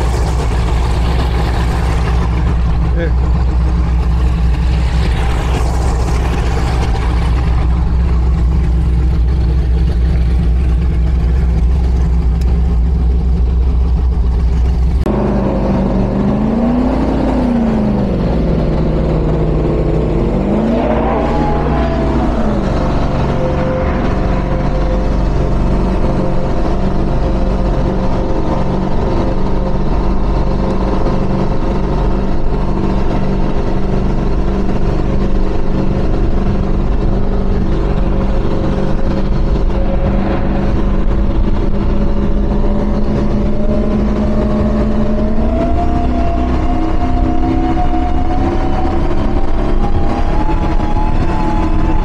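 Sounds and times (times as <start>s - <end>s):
race boat engines running hard: 0.0s - 20.4s, 21.5s - 52.0s.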